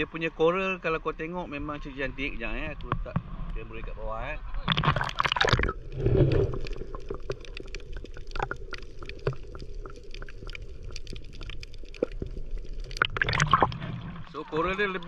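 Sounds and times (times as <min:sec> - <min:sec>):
muffled underwater rumble: 0:01.0 - 0:15.0.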